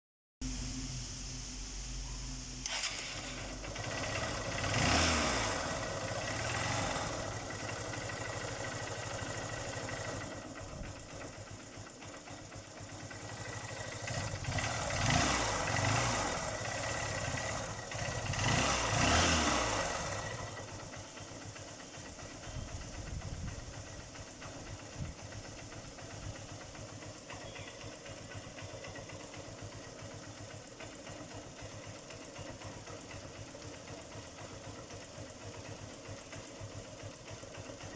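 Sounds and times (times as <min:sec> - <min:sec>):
engine idling and revving: 0:02.0 - 0:37.9.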